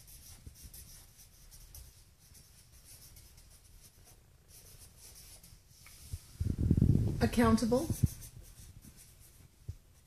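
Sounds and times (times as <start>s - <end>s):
marker scratching on paper: 0.0s - 6.2s, 7.2s - 10.0s.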